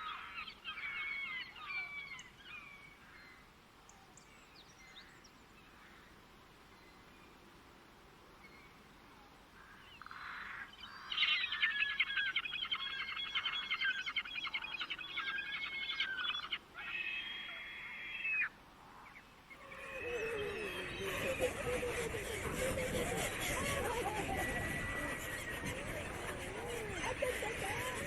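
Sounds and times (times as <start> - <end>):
songbird singing: 0.0 - 6.0, 9.8 - 17.3, 18.3 - 28.0.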